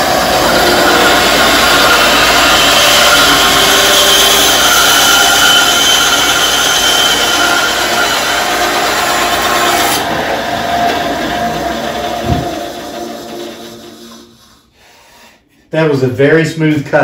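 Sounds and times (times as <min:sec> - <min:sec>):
band saw cutting log: 0:00.0 - 0:14.5.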